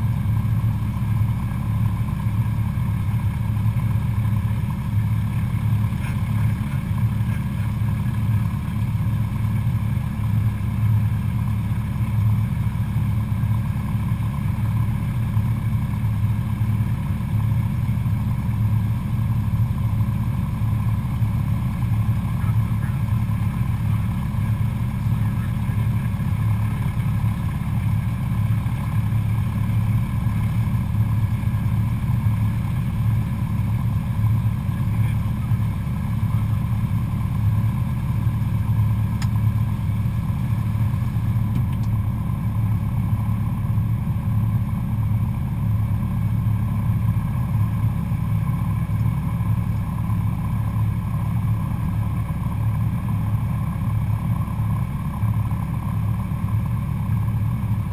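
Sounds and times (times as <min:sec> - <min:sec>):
light aircraft engine droning: 0:00.0 - 0:57.9.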